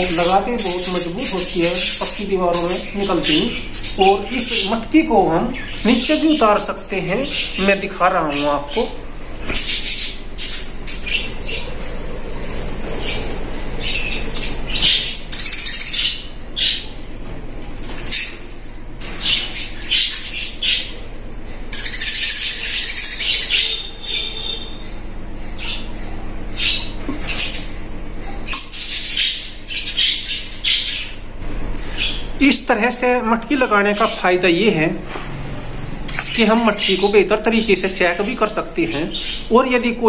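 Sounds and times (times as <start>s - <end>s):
budgerigars chattering: 0.0s - 40.0s.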